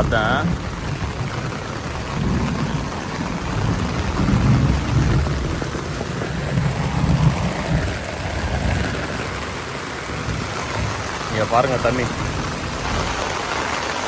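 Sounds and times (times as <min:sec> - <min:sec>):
low rumble: 0:00.0 - 0:13.6
heavy rain pouring: 0:00.0 - 0:14.0.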